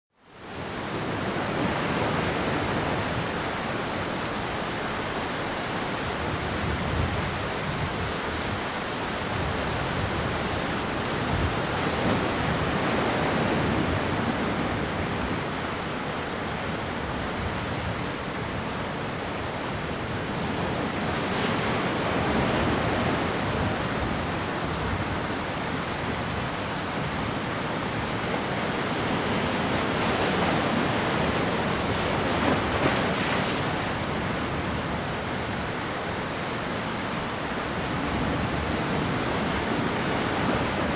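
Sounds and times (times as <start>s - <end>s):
heavy water rushing: 0.1s - 40.9s.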